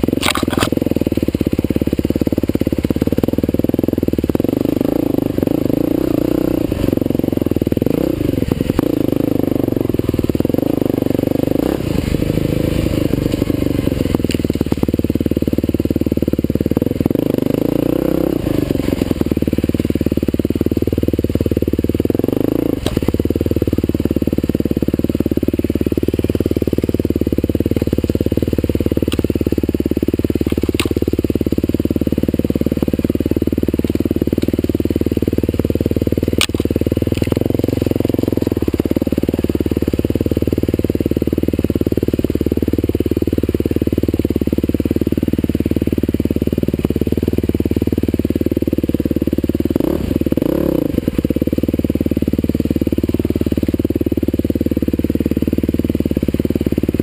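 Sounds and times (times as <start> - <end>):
dirt bike engine revving: 0.0 - 48.1, 48.8 - 53.8.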